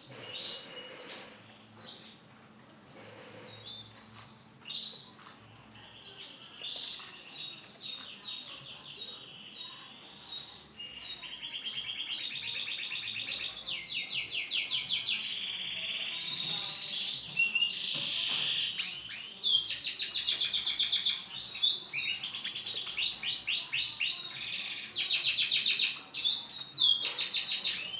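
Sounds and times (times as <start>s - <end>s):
canary singing trills: 0.0s - 27.9s.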